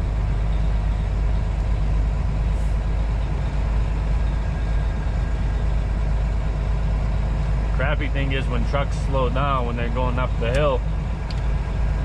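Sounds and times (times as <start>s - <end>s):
road noise: 0.0s - 12.0s
truck diesel engine droning: 0.0s - 12.0s.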